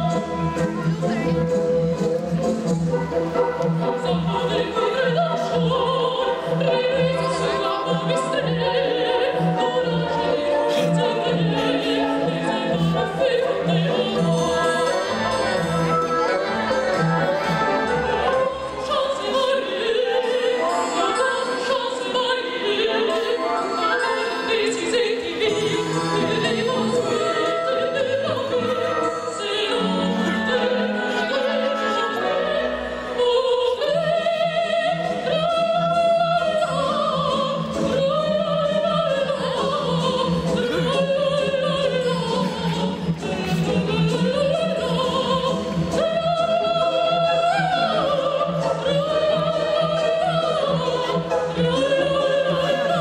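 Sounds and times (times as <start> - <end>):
operatic singing: 0.0 - 53.0
orchestra playing: 0.0 - 53.0.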